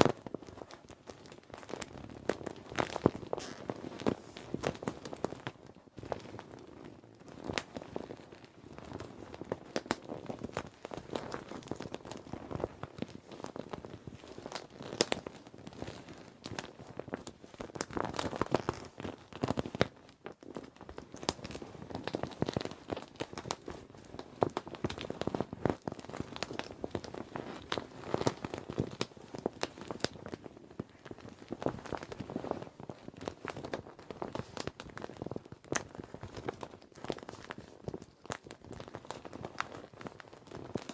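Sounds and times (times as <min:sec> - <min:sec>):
vinyl crinkling and crackling: 0:00.0 - 0:40.9.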